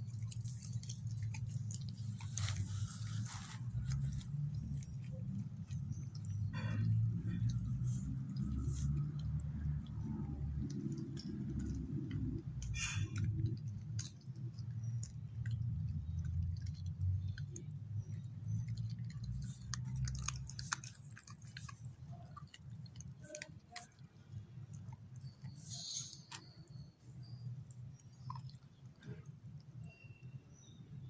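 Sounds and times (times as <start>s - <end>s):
dog chewing bones: 0.0s - 30.0s.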